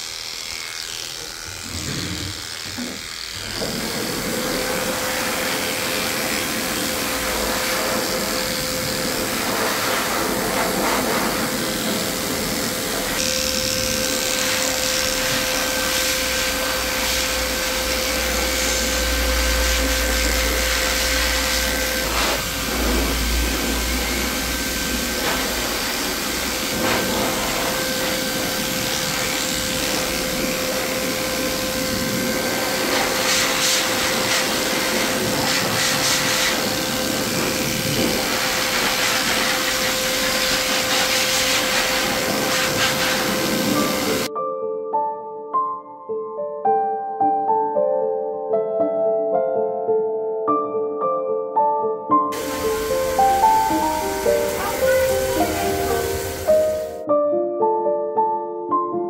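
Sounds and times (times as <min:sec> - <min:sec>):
electric dog clippers buzzing: 0:00.0 - 0:44.3, 0:52.3 - 0:57.0.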